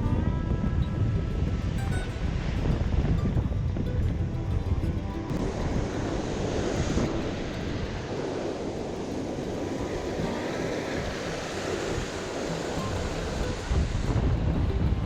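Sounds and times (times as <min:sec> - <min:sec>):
ocean surf on rocks: 0:00.0 - 0:15.0
wind noise on microphone: 0:00.0 - 0:15.0.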